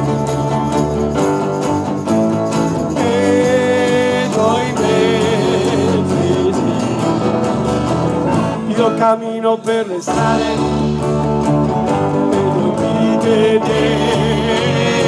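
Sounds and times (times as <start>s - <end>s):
tambourine beat: 0.0s - 8.8s, 9.9s - 15.0s
keyboard and guitar playing: 0.0s - 15.0s.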